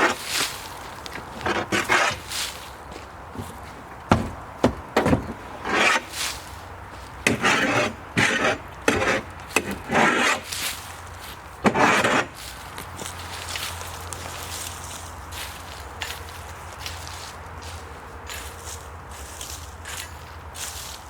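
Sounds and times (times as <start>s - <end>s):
branches and brush scraping: 0.0s - 21.0s.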